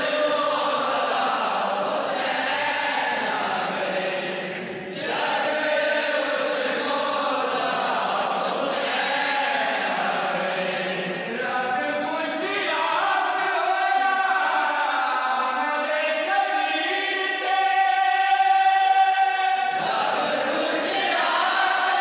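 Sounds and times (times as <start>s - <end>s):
group singing in unison: 0.0s - 22.0s.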